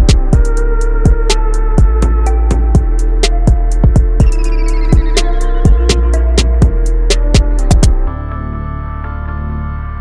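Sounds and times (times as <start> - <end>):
drum machine beat: 0.0 - 8.1
deep bass: 0.0 - 10.0.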